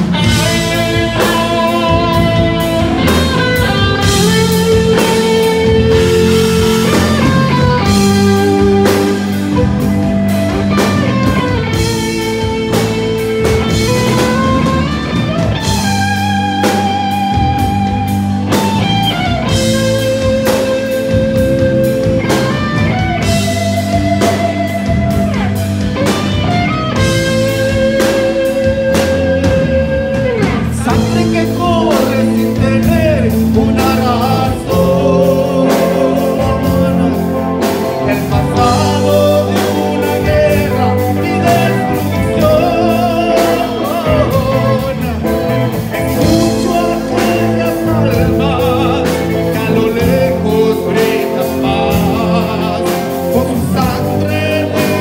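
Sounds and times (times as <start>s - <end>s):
bass guitar: 0.0s - 55.0s
drums: 0.0s - 55.0s
electric guitars: 0.0s - 55.0s
person singing: 0.0s - 55.0s.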